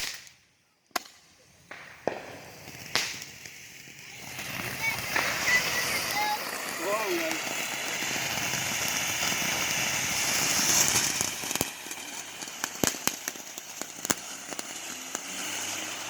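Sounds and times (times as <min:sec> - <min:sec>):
firework hissing: 0:00.0 - 0:00.4, 0:01.0 - 0:16.0
firework pops and crackles: 0:00.0 - 0:16.0.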